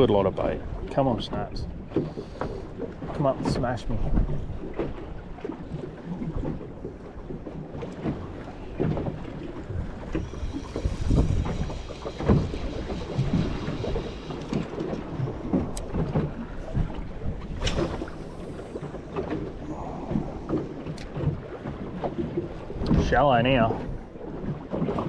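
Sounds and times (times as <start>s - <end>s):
water slapping boat hull: 0.0s - 25.0s
wind buffeting microphone: 0.0s - 25.0s.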